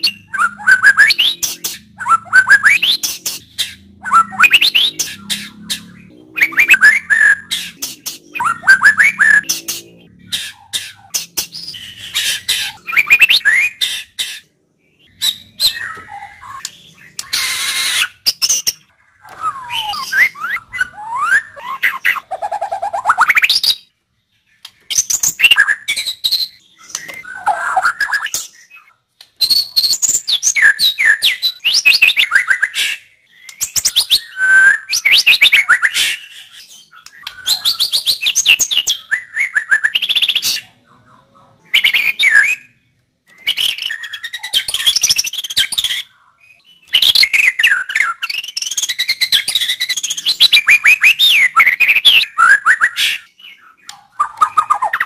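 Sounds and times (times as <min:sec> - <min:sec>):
bird singing varied phrases: 0:00.0 - 0:55.0.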